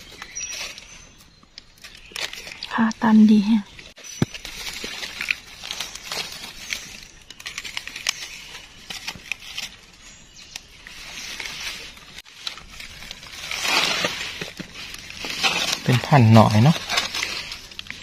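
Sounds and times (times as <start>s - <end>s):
dry leaves rustling: 0.0s - 18.0s.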